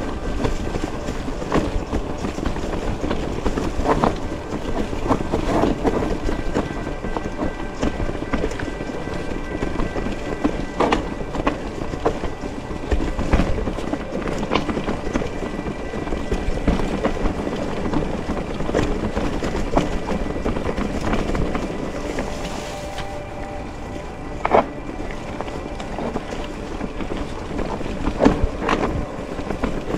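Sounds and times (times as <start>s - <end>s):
tyres rumbling on stones: 0.0s - 29.9s.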